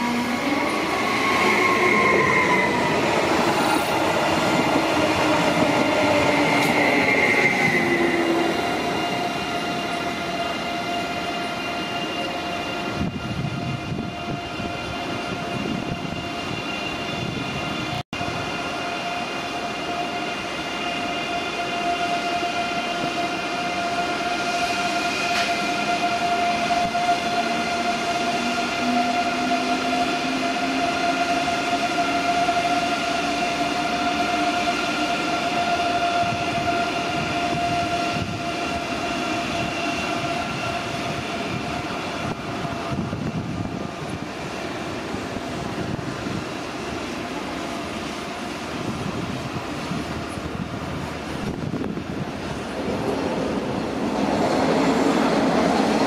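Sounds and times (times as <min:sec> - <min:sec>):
electric train whine: 0:00.0 - 0:56.0.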